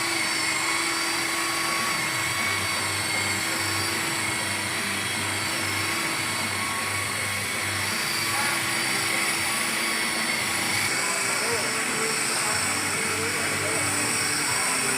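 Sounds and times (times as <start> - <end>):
power tool whining: 0.0 - 14.9.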